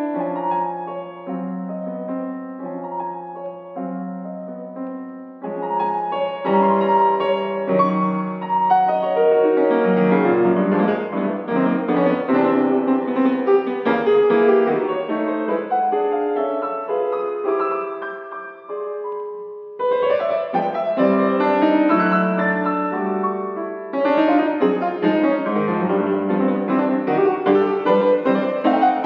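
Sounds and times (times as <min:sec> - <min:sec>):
grand piano playing: 0:00.0 - 0:29.0.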